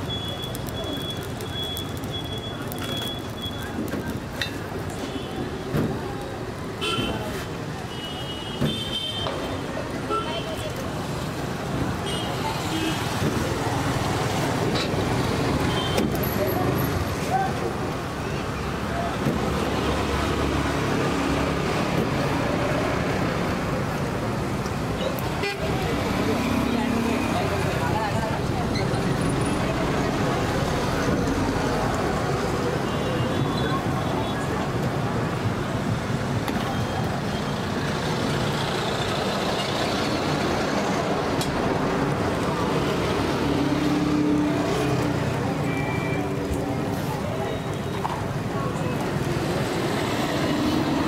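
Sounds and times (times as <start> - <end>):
roadside traffic noise: 0.0 - 51.0
vehicles passing: 0.0 - 51.0.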